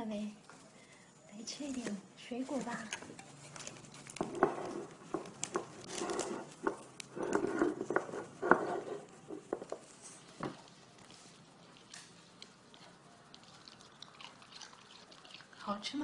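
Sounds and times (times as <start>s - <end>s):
fruit rustling in ceramic bowl: 1.4s - 15.5s.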